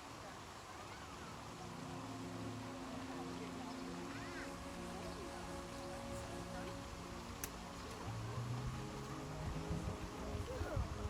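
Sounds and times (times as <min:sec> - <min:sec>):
music with long held notes: 0:01.1 - 0:11.0.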